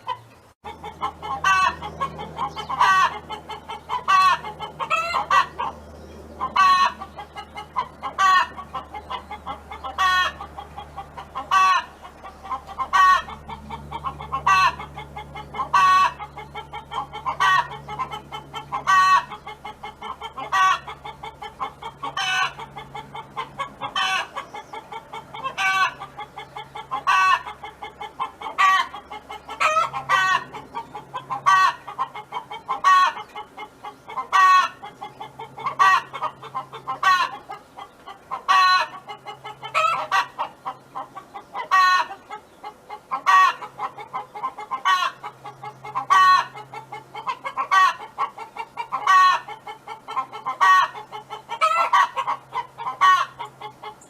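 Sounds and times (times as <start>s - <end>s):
hen clucking and calling: 0.0s - 54.0s.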